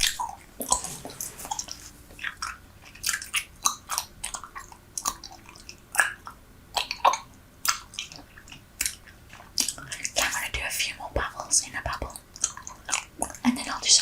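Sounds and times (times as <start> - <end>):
gum chewing smacks and clicks: 0.0 - 13.8.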